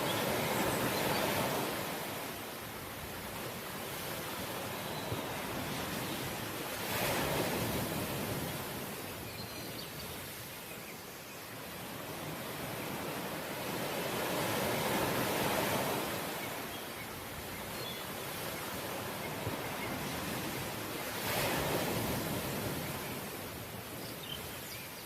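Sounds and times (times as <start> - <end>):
ocean waves washing on shore: 0.0 - 25.0.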